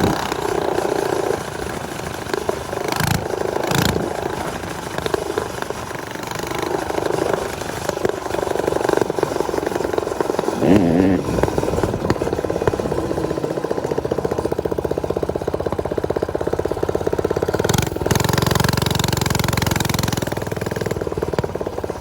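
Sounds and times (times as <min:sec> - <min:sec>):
small motorbike engines running: 0:00.0 - 0:22.0.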